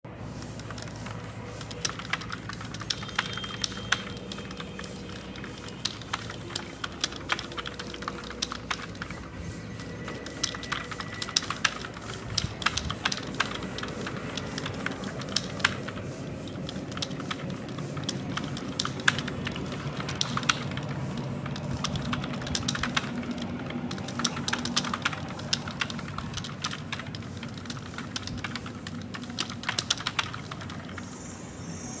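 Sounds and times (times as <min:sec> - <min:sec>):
fast typing on keyboard: 0:00.4 - 0:31.1.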